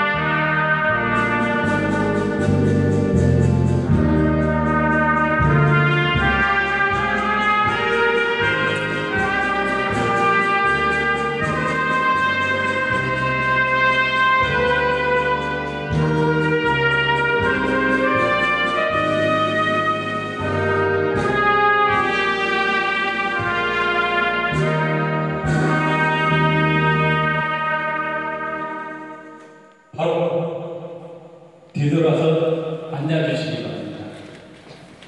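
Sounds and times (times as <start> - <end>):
recorded accompaniment with bass: 0.0 - 30.2
trumpet melody: 0.0 - 31.7.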